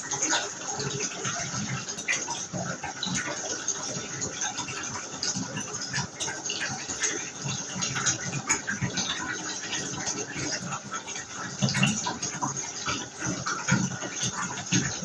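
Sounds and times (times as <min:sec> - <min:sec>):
tap water running into bath: 0:00.0 - 0:15.0
water gurgling and splashing: 0:00.0 - 0:15.0.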